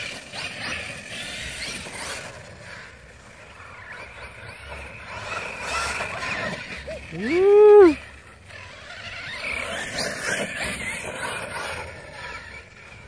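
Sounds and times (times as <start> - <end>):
rc truck motor whine: 0.0 - 13.0.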